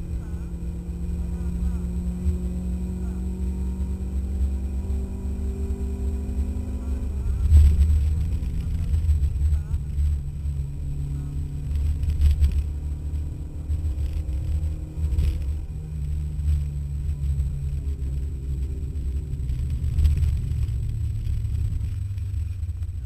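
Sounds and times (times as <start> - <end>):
car engine rumbling under throttle: 0.0 - 23.0.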